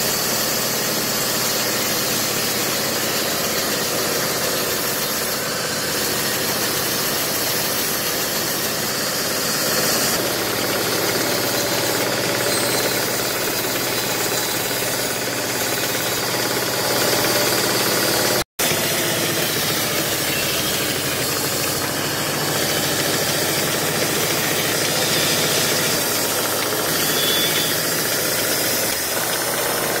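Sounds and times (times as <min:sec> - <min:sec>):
band saw cutting wood: 0:00.0 - 0:30.0.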